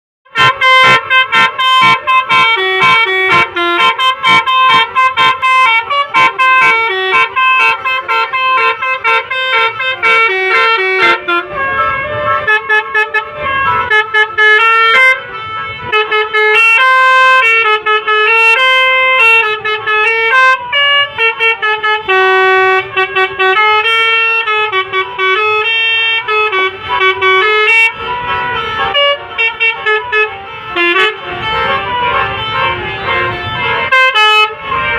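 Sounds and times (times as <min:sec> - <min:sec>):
multi-tone bus horn melody: 0:00.2 - 0:34.9.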